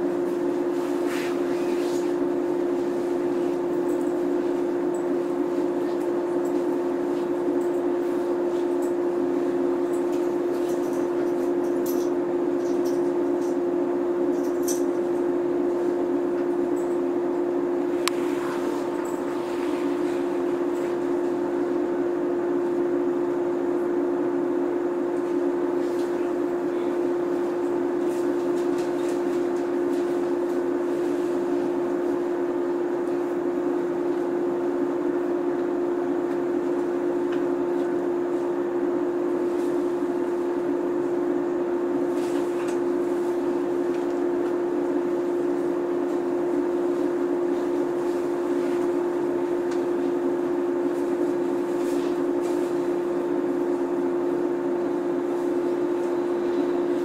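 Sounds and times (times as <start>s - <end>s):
electric train humming: 0.0s - 57.0s.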